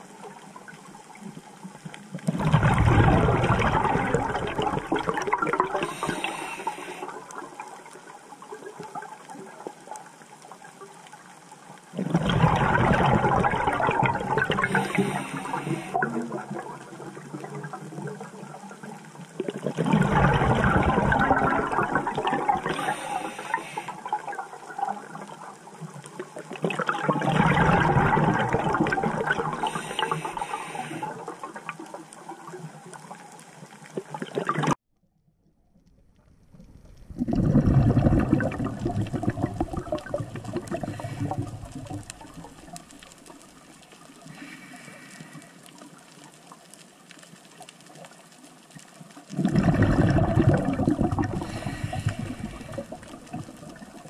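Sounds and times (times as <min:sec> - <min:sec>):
underwater exhaust bubbles gurgling: 0:00.0 - 0:34.8, 0:36.0 - 0:54.0.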